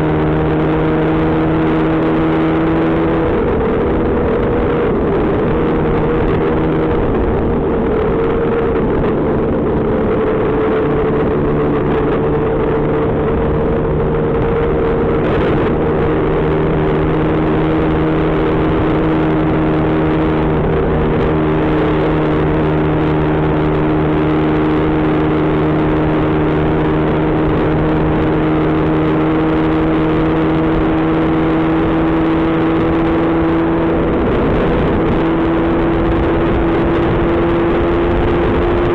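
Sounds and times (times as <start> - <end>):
road and wind noise: 0.0 - 38.9
scooter engine cruising: 0.0 - 38.9.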